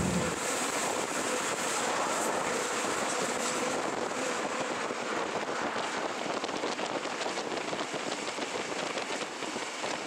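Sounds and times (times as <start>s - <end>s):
train rushing along track: 0.0s - 10.0s.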